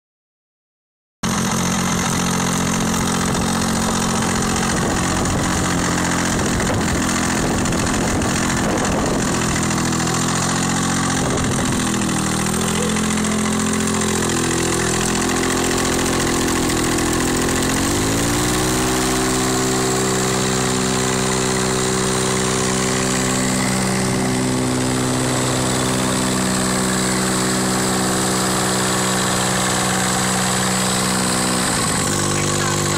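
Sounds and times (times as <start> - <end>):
paramotor engine running: 1.2 - 32.9.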